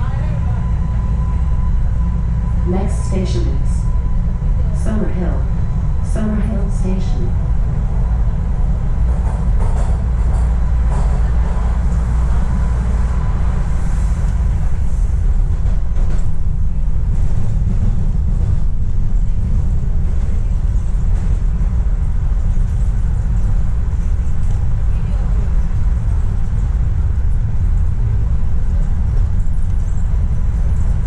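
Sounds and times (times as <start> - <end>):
subway train rumble: 0.0 - 31.0.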